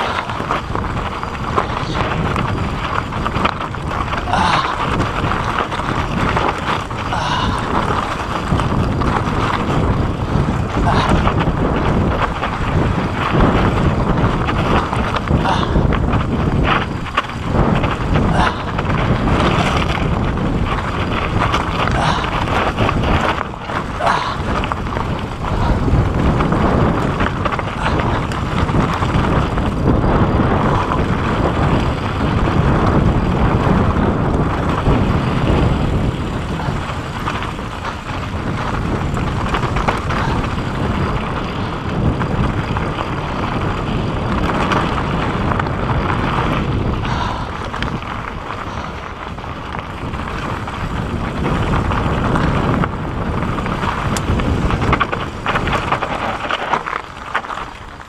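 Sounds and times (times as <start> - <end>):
bike wheels and frame knocking: 0.0 - 58.0
mountain bike rattling over rock: 0.0 - 58.0
wind rumbling on microphone: 0.0 - 58.0.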